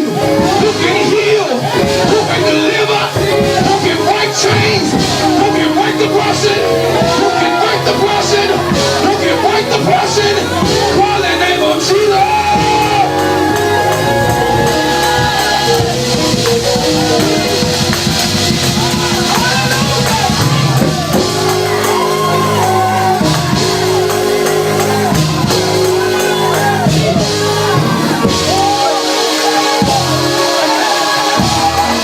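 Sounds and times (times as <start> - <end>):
gospel band playing: 0.0 - 32.0
people shouting: 0.0 - 32.0
people singing: 0.0 - 32.0.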